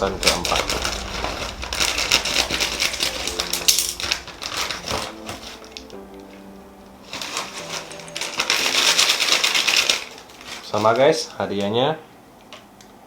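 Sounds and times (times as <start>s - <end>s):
faint background music: 0.0s - 12.2s
plastic snack packet crinkling: 0.3s - 11.9s.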